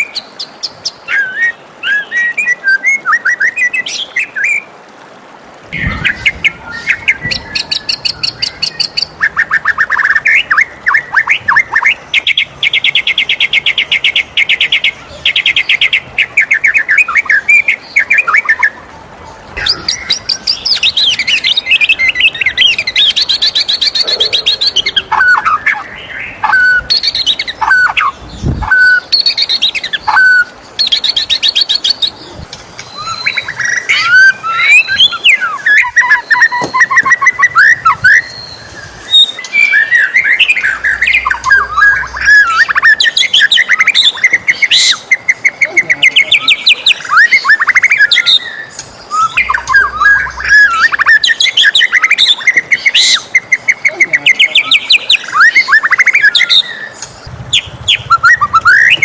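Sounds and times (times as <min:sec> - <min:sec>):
bird singing trills and whistles: 0:00.0 - 0:04.7, 0:05.7 - 0:18.8, 0:19.6 - 0:59.0.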